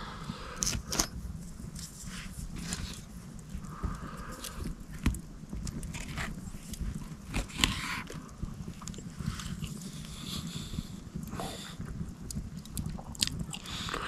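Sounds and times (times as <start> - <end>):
steady low rumble: 0.0 - 14.0
chewing: 2.1 - 14.0.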